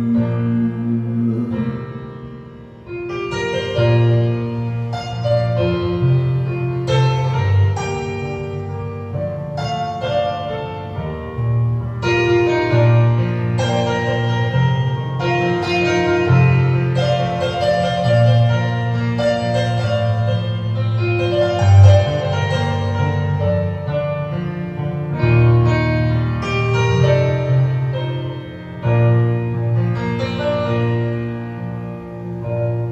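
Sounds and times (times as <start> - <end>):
keyboard chords over bass line: 0.0 - 32.9.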